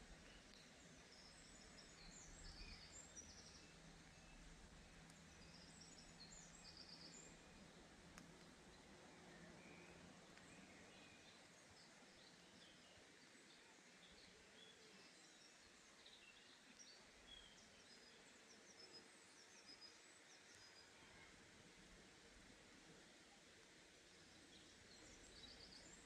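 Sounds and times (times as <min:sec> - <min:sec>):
faint birds chirping: 0:00.0 - 0:26.0
steady low hiss: 0:00.0 - 0:26.0.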